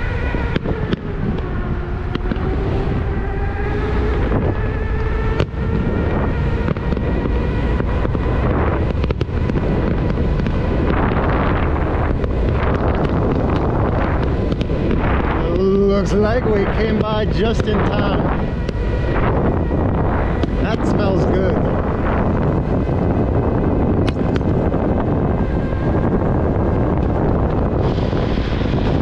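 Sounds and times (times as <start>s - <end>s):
electric motor whine: 0.0s - 29.0s
wind rushing over microphone: 0.0s - 29.0s.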